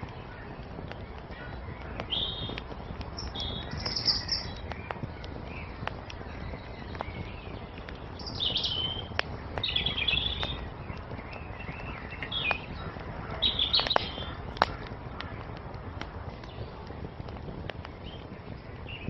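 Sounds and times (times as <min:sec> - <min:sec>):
songbirds chirping: 0:00.0 - 0:19.0
wood fire crackling and popping: 0:00.0 - 0:19.0.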